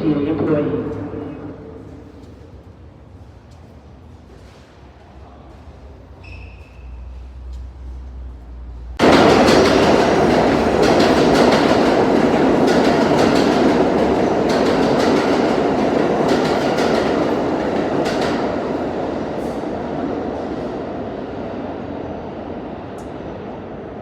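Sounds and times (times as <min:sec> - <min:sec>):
subway train rumbling on rails: 0:00.0 - 0:24.0.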